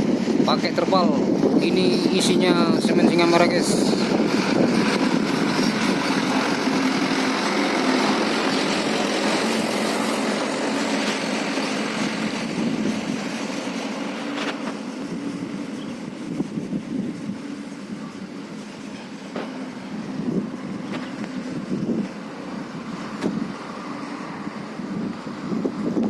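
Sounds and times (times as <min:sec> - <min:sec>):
truck diesel engine passing: 0:03.4 - 0:26.0.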